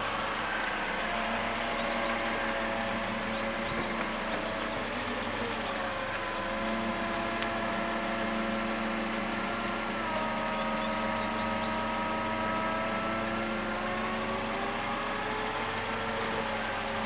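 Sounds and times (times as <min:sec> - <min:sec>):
hydraulic pump motor whining: 0:00.0 - 0:17.0.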